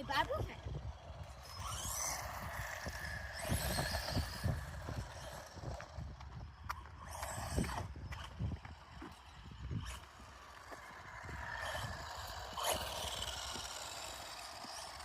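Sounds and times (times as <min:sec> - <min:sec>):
toy car electric motor whining: 0:00.0 - 0:15.0
toy car knocks and rattles: 0:01.0 - 0:15.0.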